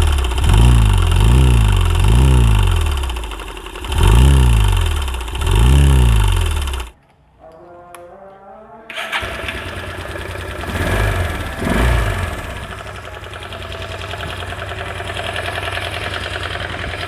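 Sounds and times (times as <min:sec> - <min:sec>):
motorcycle engine knocking: 0:00.0 - 0:07.0, 0:09.6 - 0:17.0.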